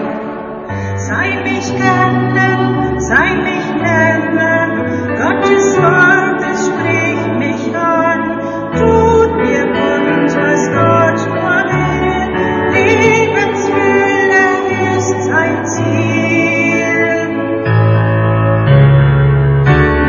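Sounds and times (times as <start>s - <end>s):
choir singing: 0.0s - 8.2s, 9.1s - 17.4s
instrumental accompaniment: 0.0s - 20.0s.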